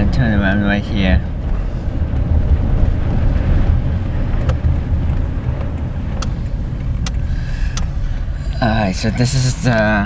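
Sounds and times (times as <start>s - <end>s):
car rumbling on the road: 0.0s - 10.0s.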